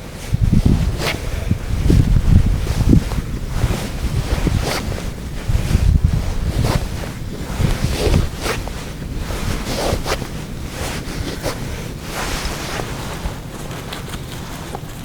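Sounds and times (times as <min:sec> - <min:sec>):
scratchy microphone handling: 0:00.0 - 0:15.0
wind buffeting microphone: 0:00.0 - 0:15.0.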